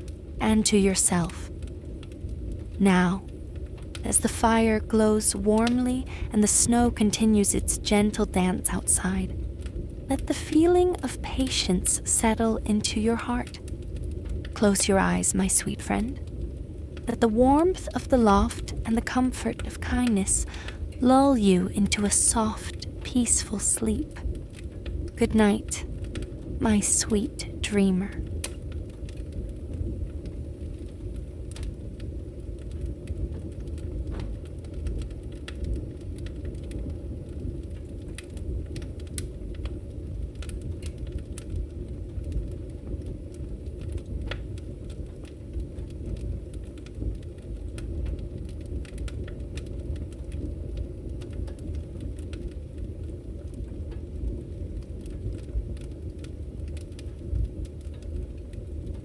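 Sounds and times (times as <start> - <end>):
fire popping and snapping: 0.0 - 59.0
low rumble of burning fire: 0.0 - 59.0.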